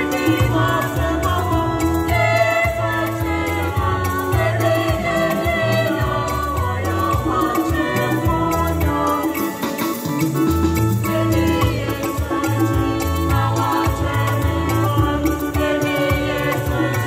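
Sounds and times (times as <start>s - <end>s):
young voices singing in harmony: 0.0s - 9.6s, 11.0s - 17.0s
keyboard playing chords: 0.0s - 17.0s.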